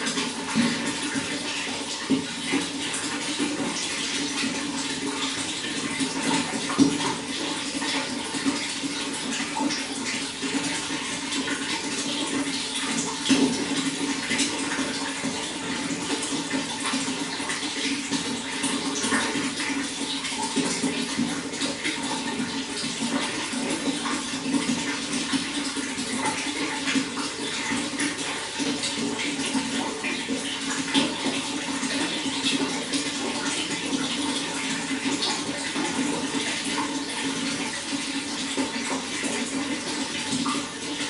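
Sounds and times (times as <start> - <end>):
running water flowing: 0.0 - 41.0.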